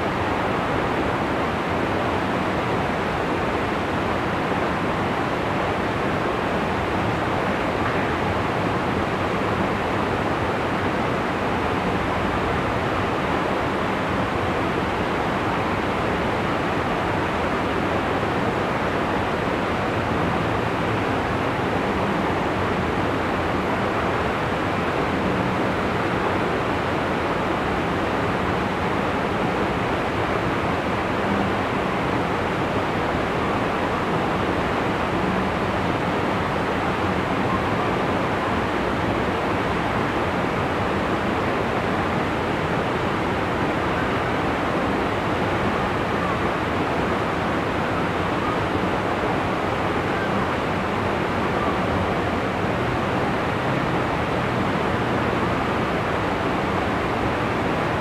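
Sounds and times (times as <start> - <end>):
flowing canal water: 0.0 - 58.0.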